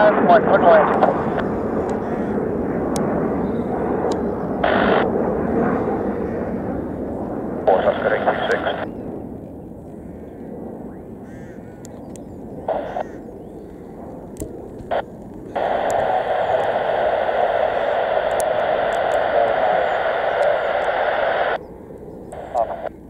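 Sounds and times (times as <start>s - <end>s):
radio static hiss: 0.0s - 9.0s, 12.6s - 21.6s, 22.3s - 23.0s
low jet rumble: 0.0s - 23.0s.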